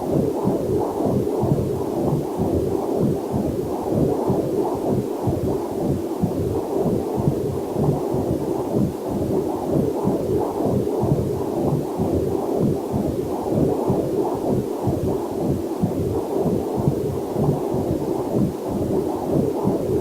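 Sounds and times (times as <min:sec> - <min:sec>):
fetal heartbeat whooshing pulse: 0:00.0 - 0:20.0.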